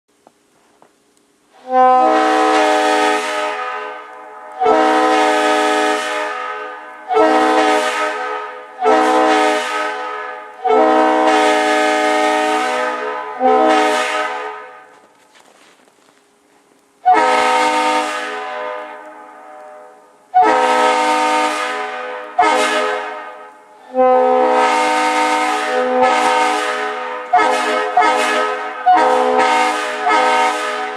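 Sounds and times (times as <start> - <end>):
locomotive air horn chord: 1.6 - 15.7, 17.0 - 30.9.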